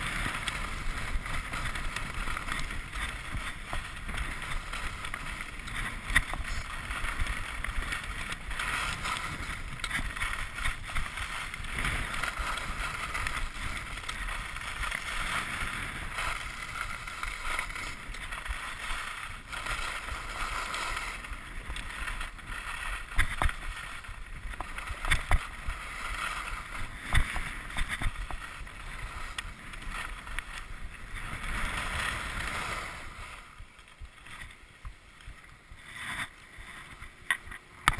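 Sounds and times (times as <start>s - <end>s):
skis scraping on snow: 0.0s - 37.9s.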